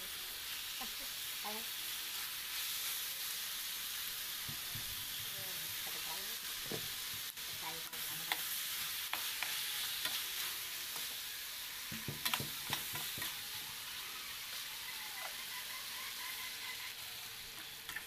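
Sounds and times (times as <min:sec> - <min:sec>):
fish sizzling in a pan: 0:00.0 - 0:18.0.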